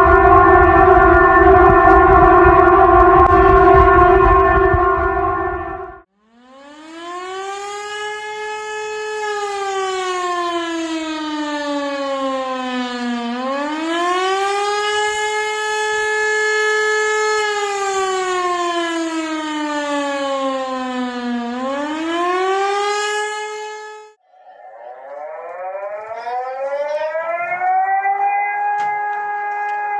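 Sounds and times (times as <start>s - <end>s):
civil defense siren wailing: 0.0s - 29.9s.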